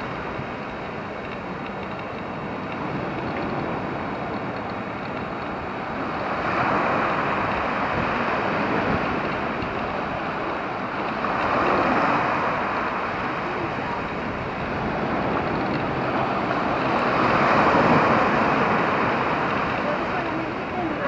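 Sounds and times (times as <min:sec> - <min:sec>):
small waves washing on beach: 0:00.0 - 0:21.0.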